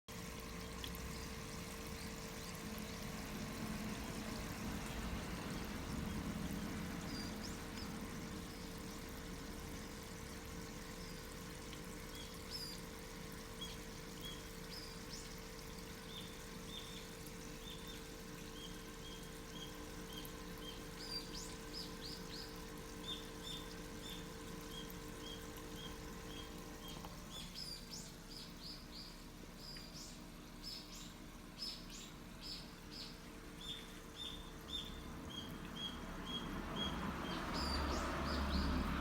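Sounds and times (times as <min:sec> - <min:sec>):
water pouring and trickling: 0:00.1 - 0:39.0
small birds chirping: 0:00.5 - 0:39.0.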